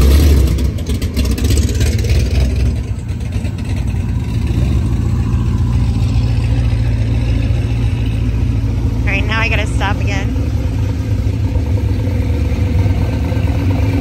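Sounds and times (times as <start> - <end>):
car engines rumbling past: 0.0 - 14.0.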